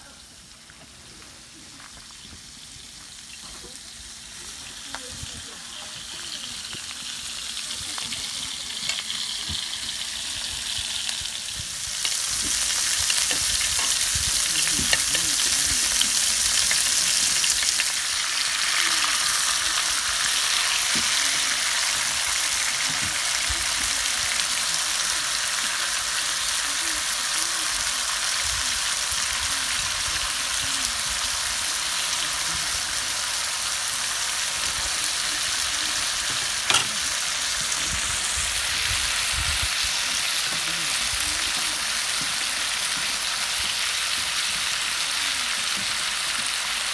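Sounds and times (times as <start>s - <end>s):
meat sizzling on a grill: 0.0s - 46.9s.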